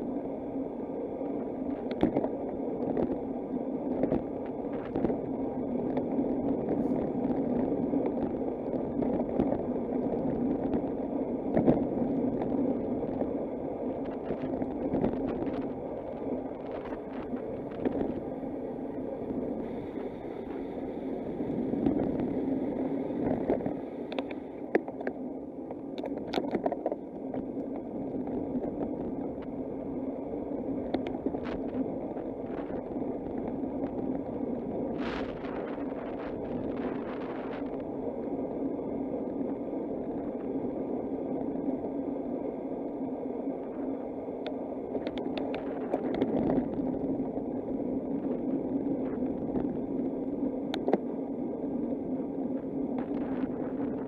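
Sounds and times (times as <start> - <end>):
bicycle tyres on road: 0.0 - 54.0.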